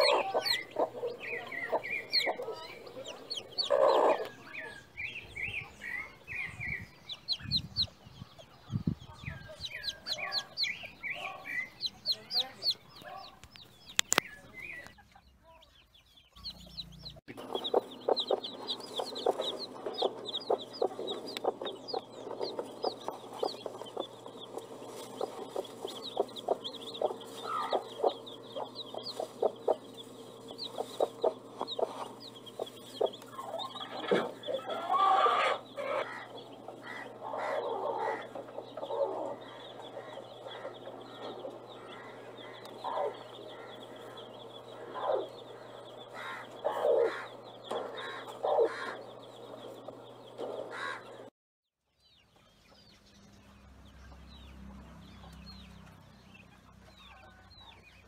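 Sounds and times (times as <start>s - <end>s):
chickens clucking: 0.0s - 51.3s.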